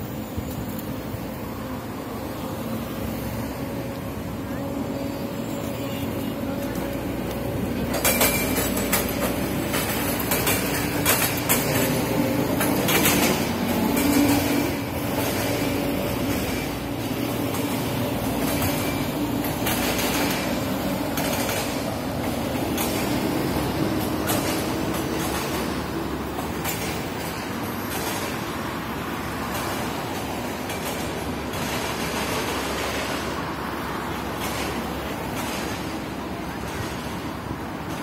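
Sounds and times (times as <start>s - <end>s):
passing traffic hum: 0.0s - 38.0s.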